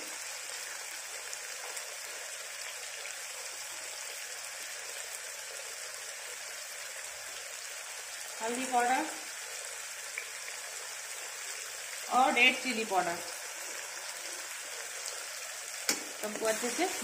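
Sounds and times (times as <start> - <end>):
paste sizzling in oil: 0.0 - 17.0.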